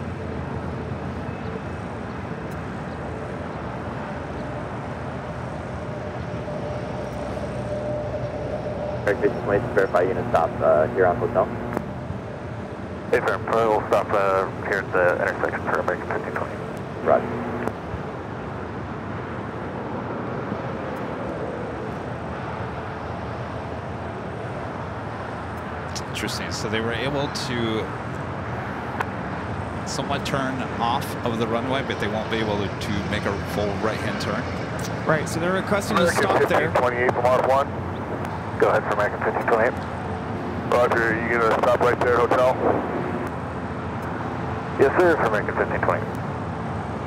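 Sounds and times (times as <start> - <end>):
jet engine roar with whine: 0.0 - 47.0.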